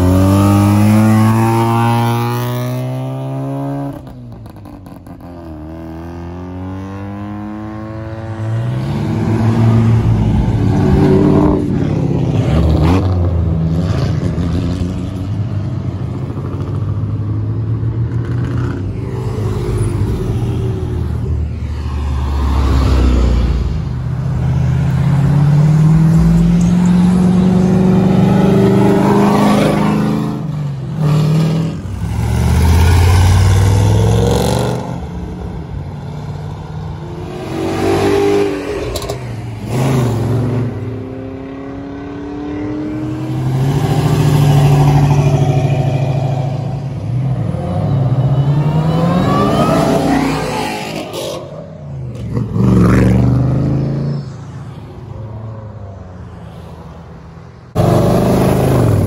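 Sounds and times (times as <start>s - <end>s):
cars accelerating past: 0.0s - 35.4s, 36.0s - 55.4s, 57.6s - 59.0s.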